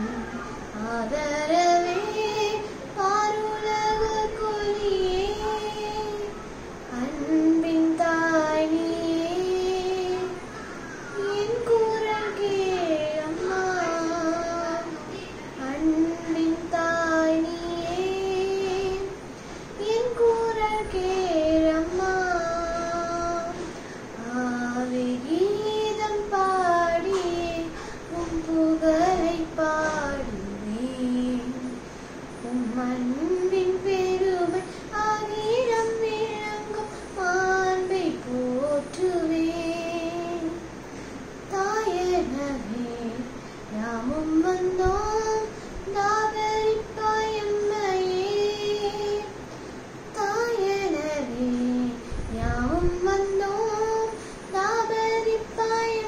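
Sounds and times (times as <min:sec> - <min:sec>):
girl singing devotional song: 0:00.0 - 0:56.0.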